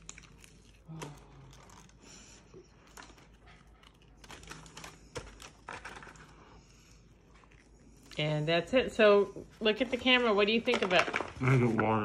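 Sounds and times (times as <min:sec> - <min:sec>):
paper liner crinkling: 0:00.0 - 0:07.7, 0:09.7 - 0:12.0.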